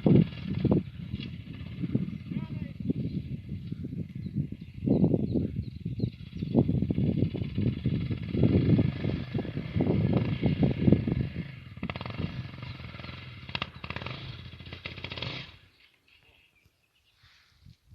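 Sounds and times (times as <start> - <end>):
motorcycle engine running: 0.0 - 3.9, 4.6 - 15.7.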